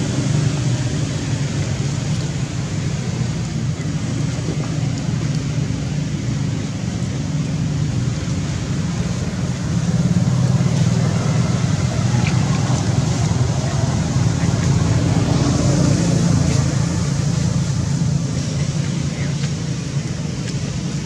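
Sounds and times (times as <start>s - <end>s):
low rumble with hiss: 0.0s - 21.0s.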